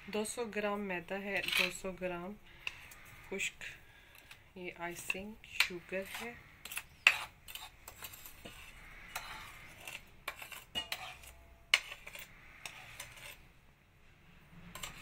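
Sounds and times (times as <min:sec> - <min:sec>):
metal spoon scraping a plate: 0:01.2 - 0:02.0, 0:02.6 - 0:13.5, 0:14.6 - 0:15.0.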